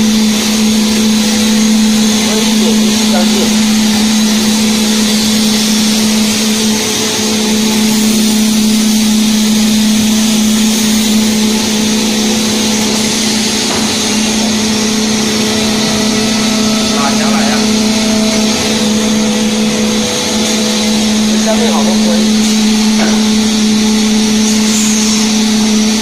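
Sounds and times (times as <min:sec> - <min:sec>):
cnc router machinery running: 0:00.0 - 0:26.0.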